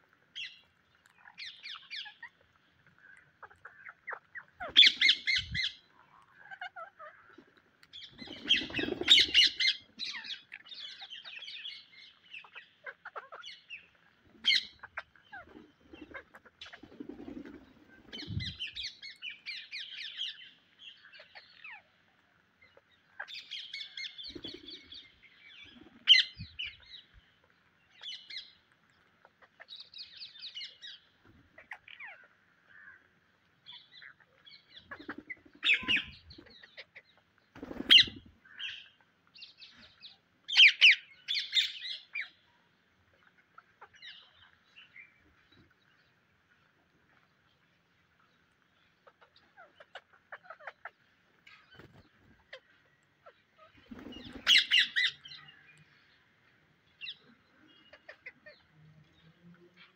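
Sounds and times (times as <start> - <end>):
parakeets squawking and chattering: 0.3 - 22.0, 22.6 - 28.6, 29.2 - 33.0, 33.6 - 42.4, 43.1 - 45.2, 49.0 - 59.9.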